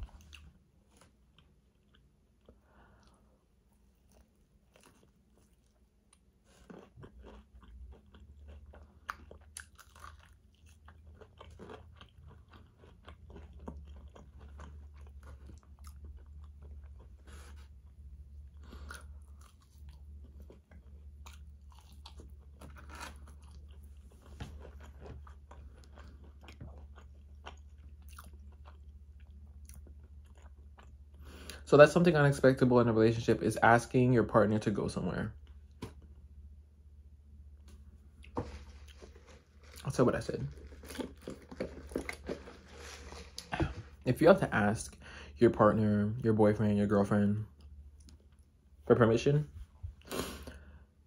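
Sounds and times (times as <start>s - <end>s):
person chewing and crunching food: 0.0s - 31.6s, 35.3s - 45.4s, 47.4s - 48.8s, 49.7s - 51.0s.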